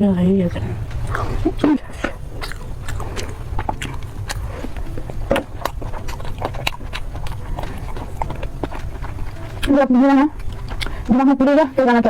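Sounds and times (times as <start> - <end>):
steady low hum: 0.0 - 12.0
person chewing crunchy food: 0.5 - 12.0.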